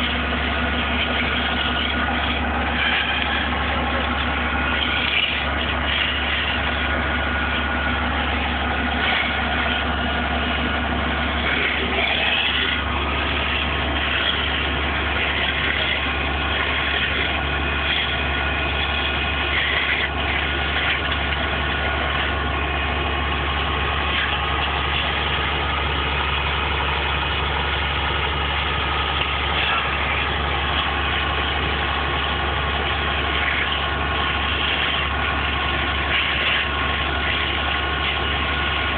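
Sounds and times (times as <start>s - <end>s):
large vehicle engine idling: 0.0s - 38.9s.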